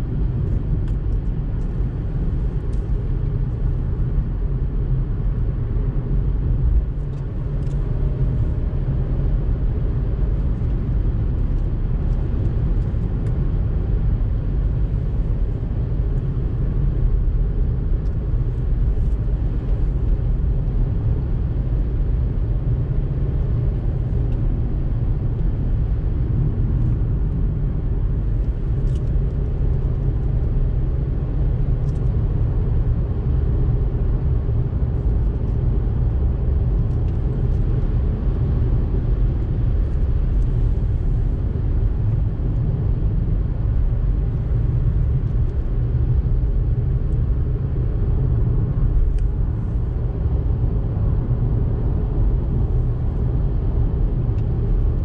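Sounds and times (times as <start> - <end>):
car cabin road noise: 0.0 - 55.0.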